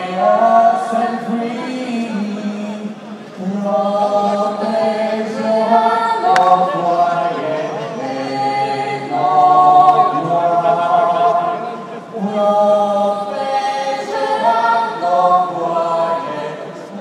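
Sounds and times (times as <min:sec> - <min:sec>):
crowd singing long held notes: 0:00.0 - 0:17.0.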